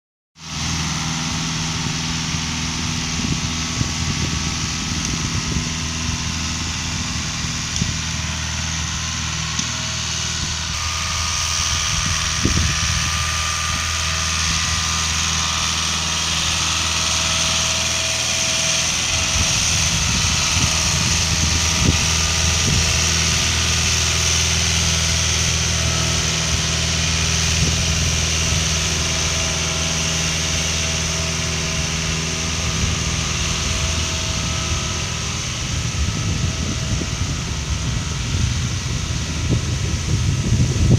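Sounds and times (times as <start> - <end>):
tractor diesel engine running: 0.4 - 40.9.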